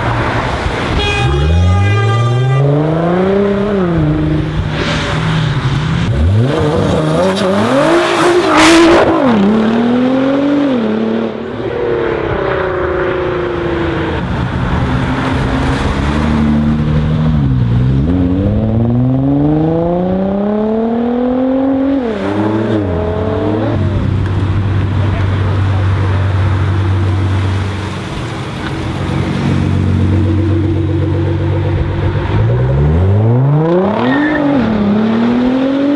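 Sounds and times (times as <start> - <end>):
car engine accelerating hard: 2.7 - 35.9.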